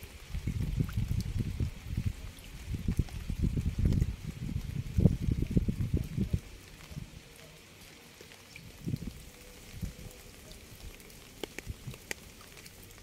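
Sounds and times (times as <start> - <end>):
heavy raindrops thudding: 0.0 - 7.2, 8.6 - 13.0
steady rain hissing: 0.0 - 13.0.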